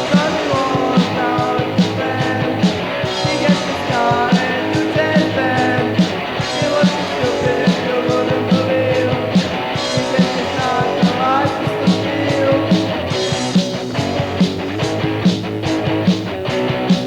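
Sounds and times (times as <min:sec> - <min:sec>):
drums hitting steady beat: 0:00.0 - 0:17.0
hardcore punk band playing: 0:00.0 - 0:17.0.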